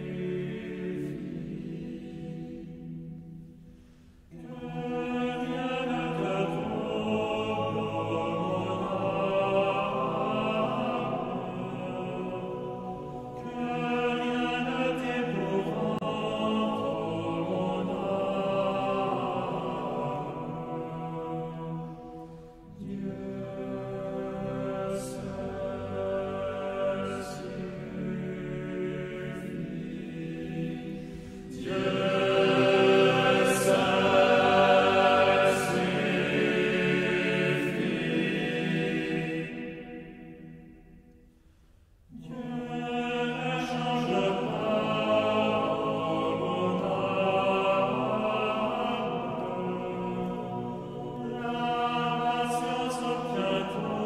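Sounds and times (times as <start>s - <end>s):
choir holding sustained chords: 0.0s - 54.0s
slow sung chant: 0.0s - 54.0s.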